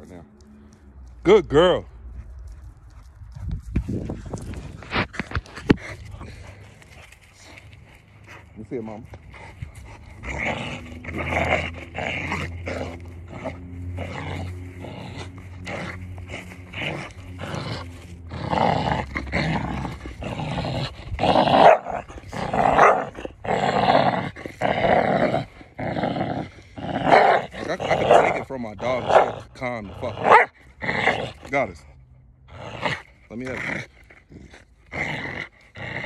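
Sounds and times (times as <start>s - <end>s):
dog growling: 4.4s - 36.0s.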